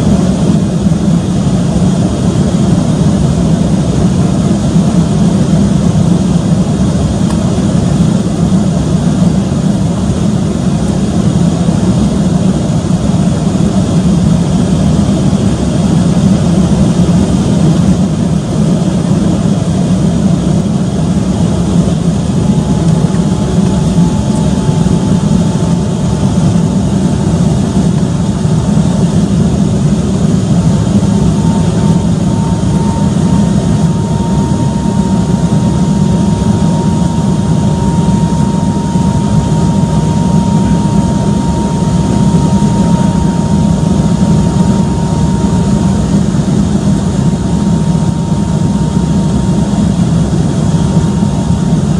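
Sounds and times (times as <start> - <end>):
jet engines low rumble in cabin: 0.0 - 51.9.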